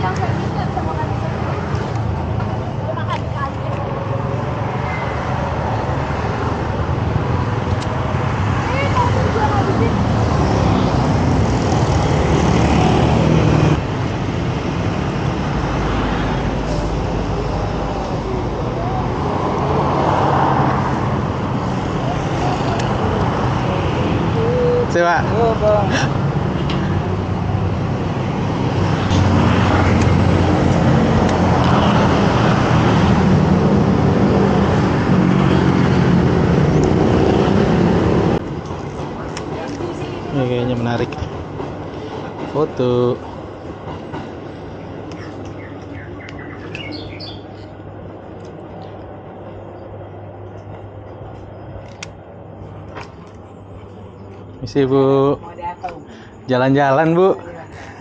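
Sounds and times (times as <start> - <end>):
motorbike and car engines: 0.0 - 55.4
road traffic rumble: 0.0 - 58.0.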